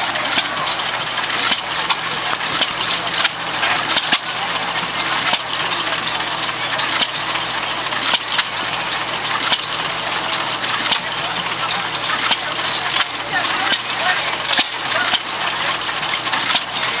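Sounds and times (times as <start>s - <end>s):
hit-and-miss engine popping: 0.0s - 17.0s.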